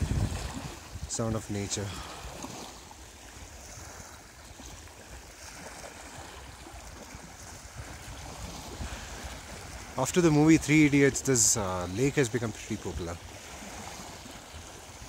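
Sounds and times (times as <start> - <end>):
small waves lapping on shore: 0.0 - 15.0
wind on microphone: 0.0 - 15.0.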